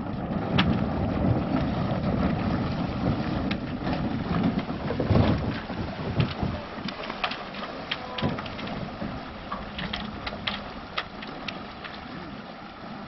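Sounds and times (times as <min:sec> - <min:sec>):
wind and water rushing: 0:00.0 - 0:13.0
sharp knocks on boat: 0:00.4 - 0:11.5.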